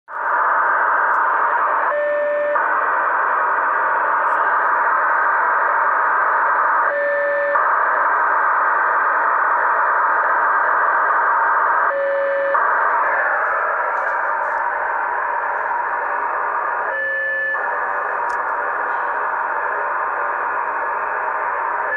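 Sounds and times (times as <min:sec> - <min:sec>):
radio static hiss: 0:00.1 - 0:21.9.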